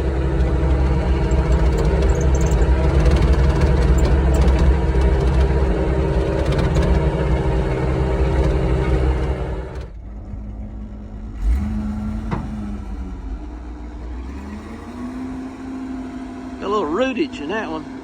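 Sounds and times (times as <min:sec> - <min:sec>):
earthmoving machine engine running: 0:00.0 - 0:18.0.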